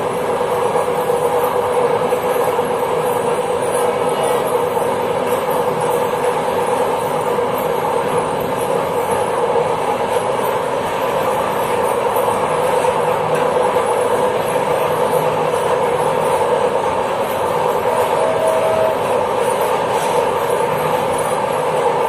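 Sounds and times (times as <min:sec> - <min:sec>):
train wheels rolling on rail: 0:00.0 - 0:22.0
steady hum: 0:02.5 - 0:22.0.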